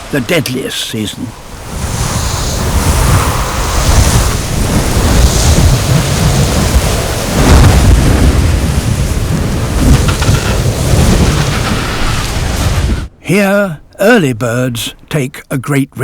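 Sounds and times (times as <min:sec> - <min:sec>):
blizzard wind gusting: 0:00.0 - 0:15.1.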